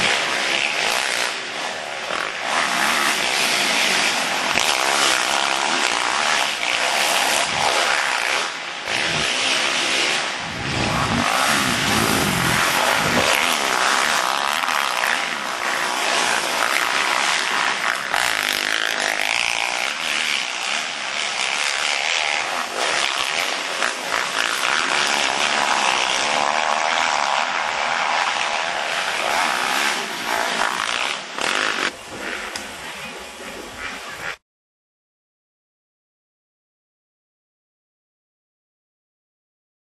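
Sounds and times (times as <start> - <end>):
dirt bike engines revving: 0.0 - 34.4.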